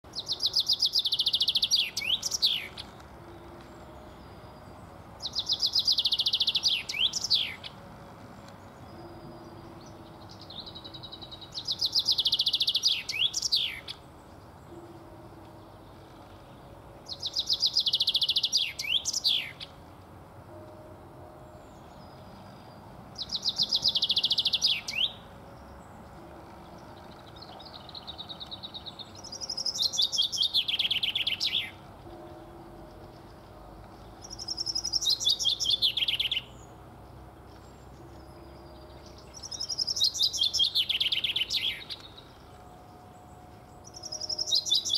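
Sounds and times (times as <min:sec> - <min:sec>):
chaffinch singing: 0:00.0 - 0:19.8, 0:20.5 - 0:44.9.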